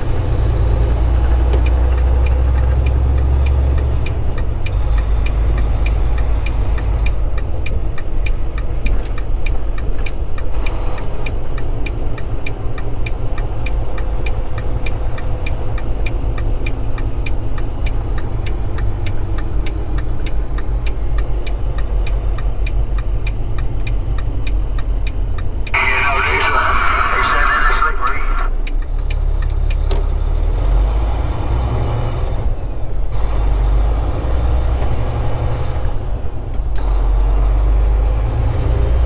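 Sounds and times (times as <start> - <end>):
diesel engine rumbling: 0.0 - 39.0
turn signal ticking: 0.0 - 39.0.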